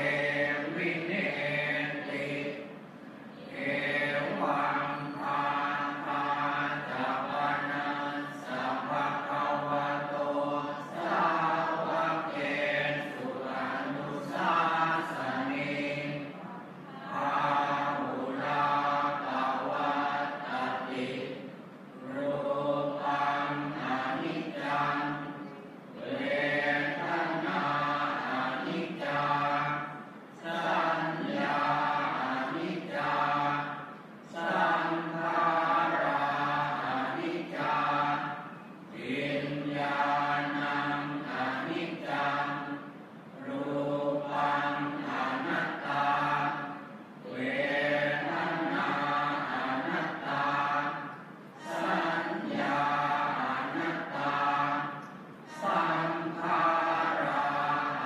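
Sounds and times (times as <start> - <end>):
monks and congregation chanting: 0.0 - 58.0.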